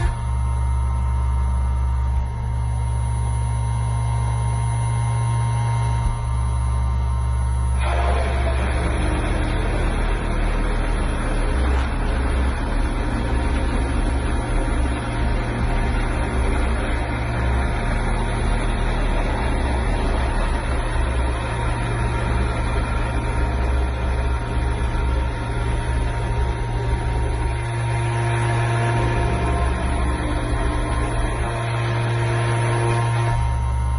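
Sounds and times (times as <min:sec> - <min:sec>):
low hum: 0:00.0 - 0:33.9.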